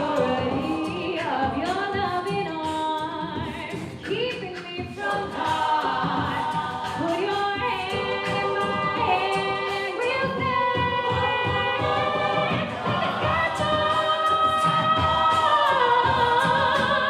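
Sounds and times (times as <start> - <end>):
vocal group singing in harmony: 0.0 - 17.0.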